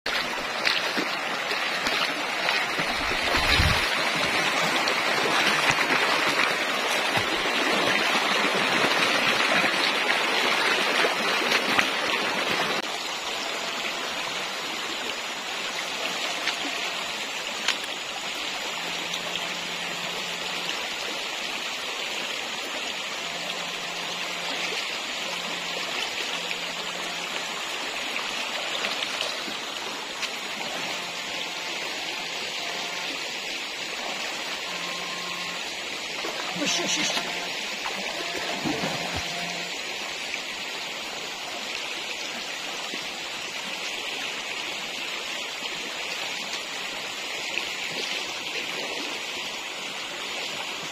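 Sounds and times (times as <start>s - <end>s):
stream rushing over stones: 0.1s - 50.9s.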